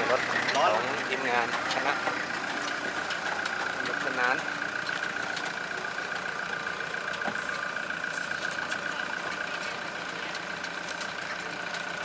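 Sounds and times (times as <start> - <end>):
constant high whine: 0.0 - 12.0
vehicle running: 0.0 - 12.0.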